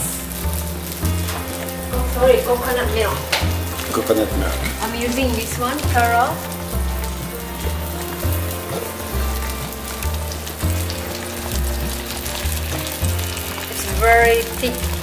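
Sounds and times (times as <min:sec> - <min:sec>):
background music with bass beat: 0:00.0 - 0:15.0
liquid pouring: 0:00.0 - 0:15.0
spice paste sizzling in a wok: 0:00.0 - 0:15.0.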